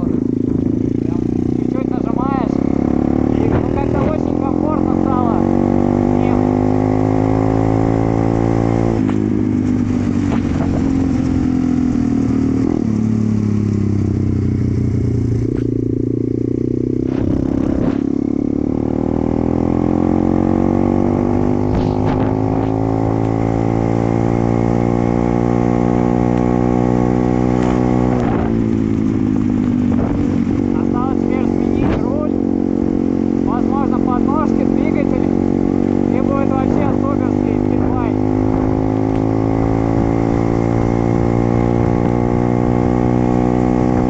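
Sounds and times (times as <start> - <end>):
motorbike engine revving: 0.0 - 44.0.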